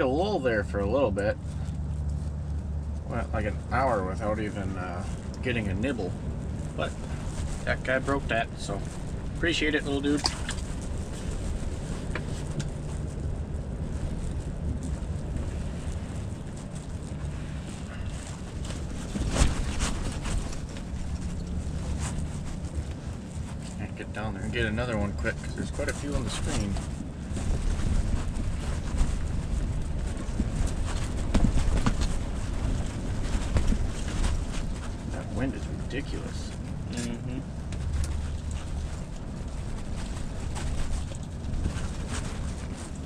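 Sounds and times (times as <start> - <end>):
wind buffeting microphone: 1.4 - 43.0.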